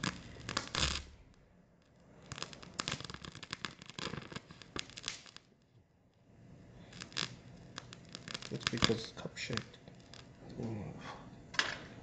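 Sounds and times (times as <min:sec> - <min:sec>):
gas torch flame crackling: 0:00.0 - 0:12.0.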